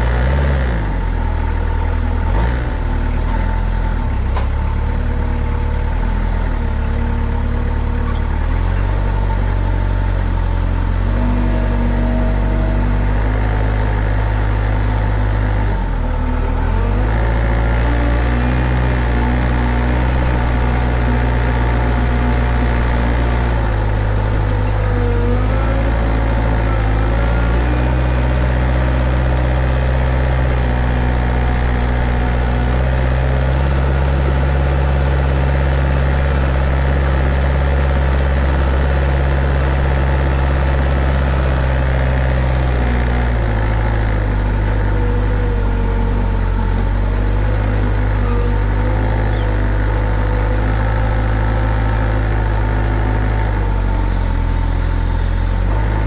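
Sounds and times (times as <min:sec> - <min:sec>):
forklift engine running: 0:00.0 - 0:56.0.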